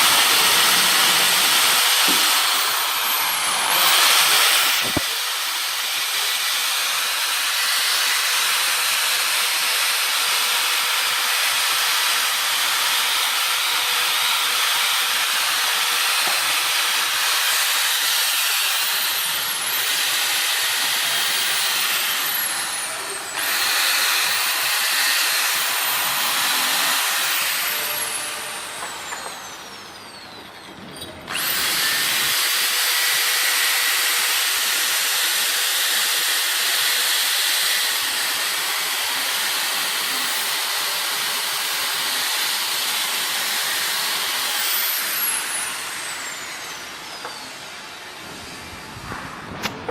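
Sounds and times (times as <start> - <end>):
tool running with loud hiss: 0.0 - 30.7, 31.3 - 49.9.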